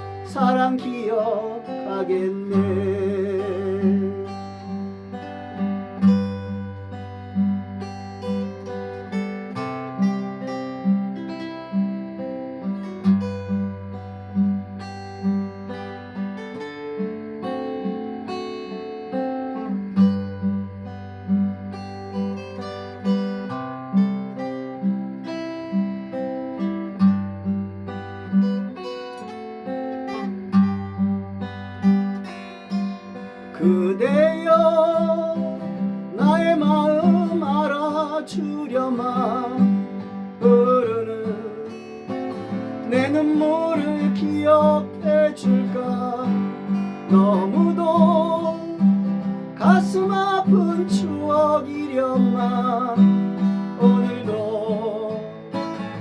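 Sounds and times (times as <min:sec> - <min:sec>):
acoustic guitar melody: 0:00.0 - 0:56.0.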